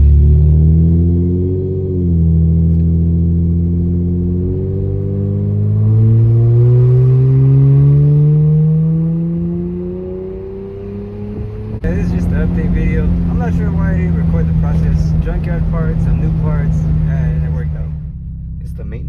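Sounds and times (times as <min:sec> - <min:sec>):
car engine revving: 0:00.0 - 0:19.0
exhaust noise: 0:00.0 - 0:19.0.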